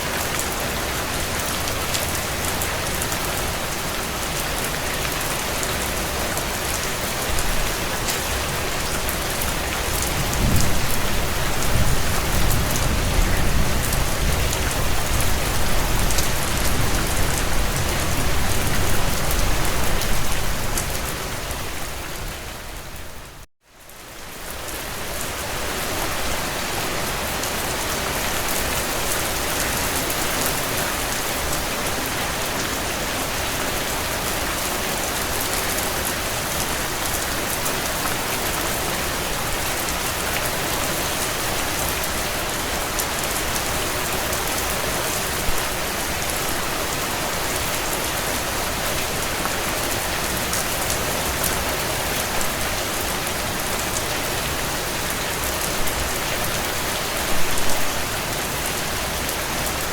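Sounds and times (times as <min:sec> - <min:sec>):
rain drumming on a tin roof: 0:00.0 - 0:59.9.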